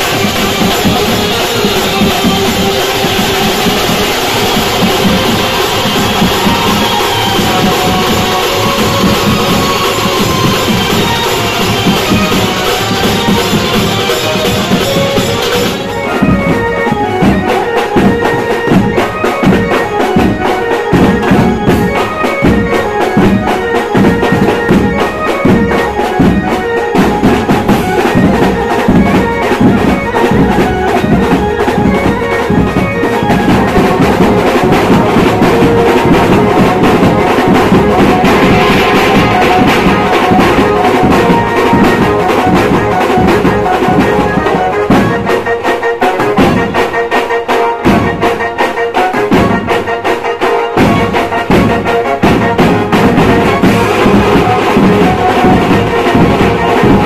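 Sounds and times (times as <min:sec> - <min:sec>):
melody of long held notes: 0:00.0 - 0:46.8
fast dense drumming: 0:00.0 - 0:46.9, 0:47.8 - 0:50.1, 0:50.7 - 0:57.0.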